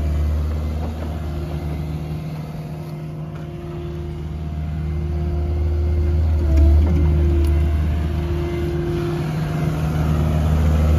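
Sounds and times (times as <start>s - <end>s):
excavator diesel engine running: 0.0s - 10.9s.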